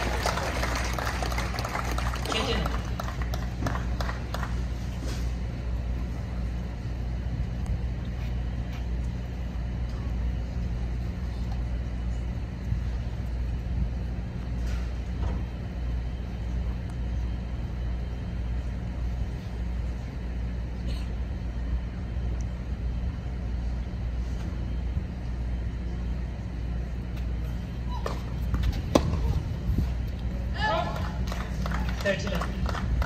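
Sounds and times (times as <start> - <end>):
low machinery hum: 0.0 - 33.0.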